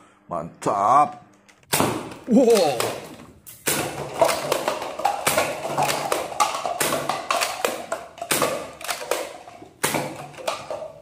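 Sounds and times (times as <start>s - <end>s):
plastic toy guns clicking: 2.1s - 11.0s.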